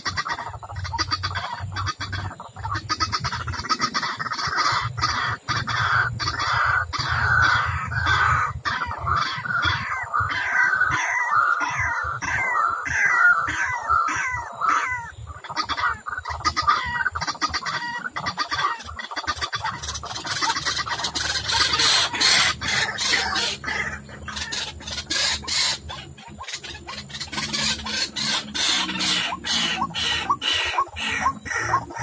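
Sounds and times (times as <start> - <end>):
bird calling rapid notes: 0.0 - 32.0.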